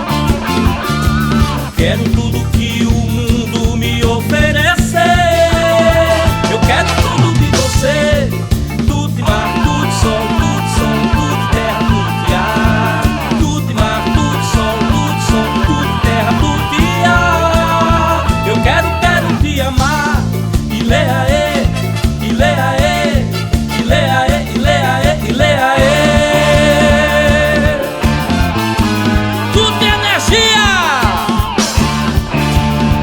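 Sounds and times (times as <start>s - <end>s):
upbeat carnival band music: 0.0s - 33.0s.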